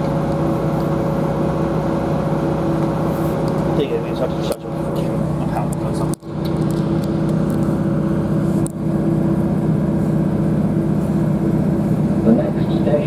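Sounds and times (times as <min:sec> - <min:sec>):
train diesel engine drone: 0:00.0 - 0:13.0.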